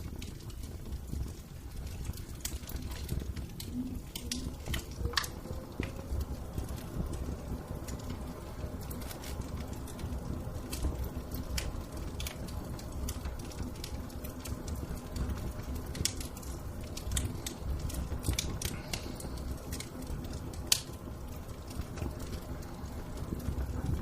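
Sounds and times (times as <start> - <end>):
fire crackling and popping: 0.0 - 24.0
low rumble of fire: 0.0 - 24.0.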